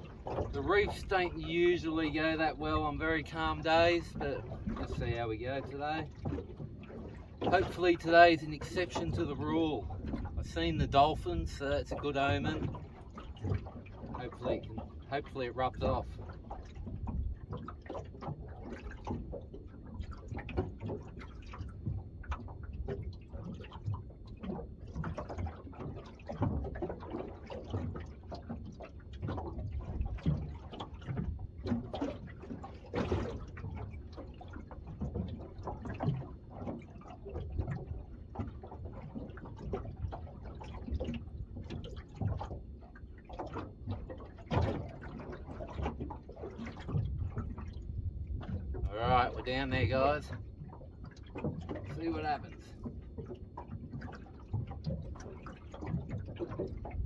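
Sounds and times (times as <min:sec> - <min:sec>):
waves lapping against boat hull: 0:00.0 - 0:57.0.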